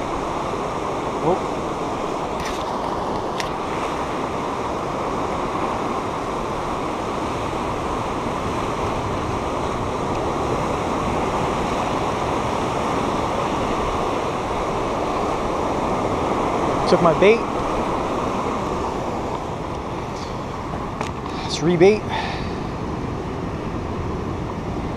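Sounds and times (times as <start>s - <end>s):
ocean surf breaking over rocks: 0.0s - 24.9s.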